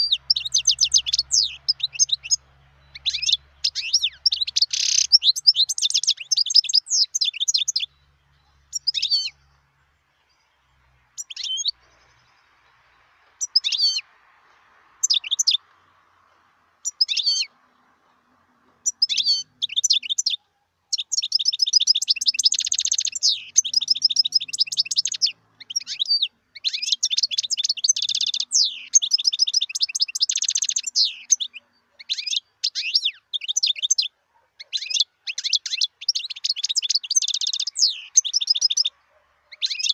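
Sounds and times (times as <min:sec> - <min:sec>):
finch singing: 0:00.0 - 0:39.9.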